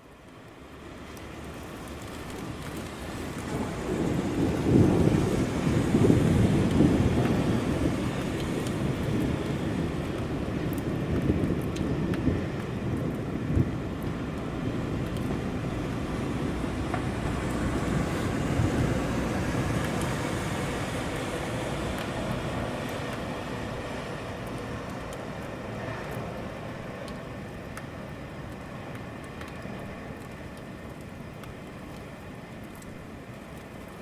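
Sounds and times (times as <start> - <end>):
low city rumble: 0.0 - 34.0
rain hissing: 0.0 - 34.0.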